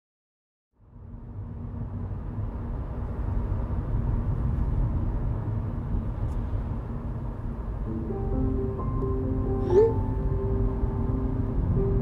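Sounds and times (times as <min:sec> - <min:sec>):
vehicle rumble: 0:00.7 - 0:12.0.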